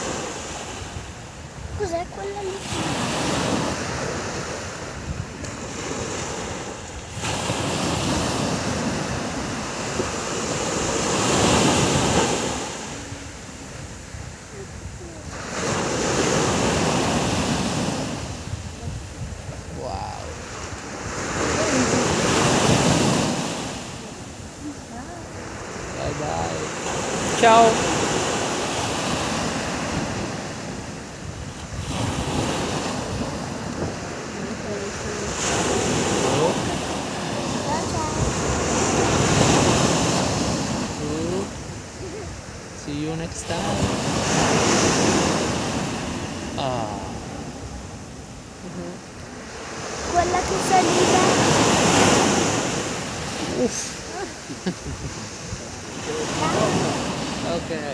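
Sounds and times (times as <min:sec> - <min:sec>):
surf washing onto sandy beach: 0:00.0 - 0:57.9
wind on microphone: 0:00.0 - 0:57.9.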